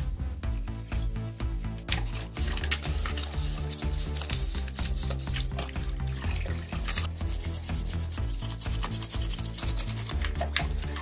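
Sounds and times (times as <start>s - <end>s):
background music: 0.0s - 11.0s
brush scrubbing plastic in water: 1.4s - 11.0s.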